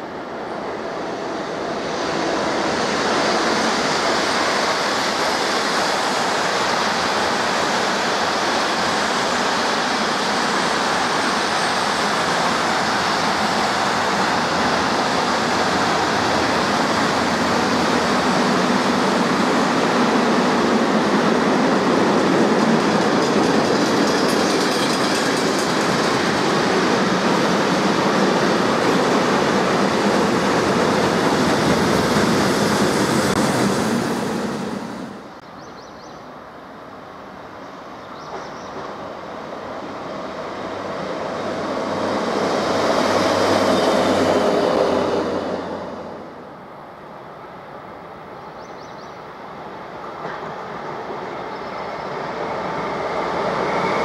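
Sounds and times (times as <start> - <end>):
freight train wheels rolling on rails: 0.0 - 54.0.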